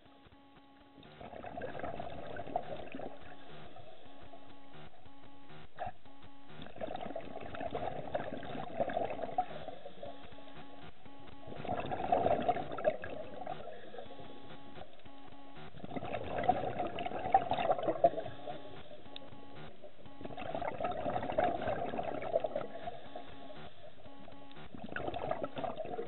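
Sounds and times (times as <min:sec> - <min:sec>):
underwater regulator bubbling: 0:01.0 - 0:26.0.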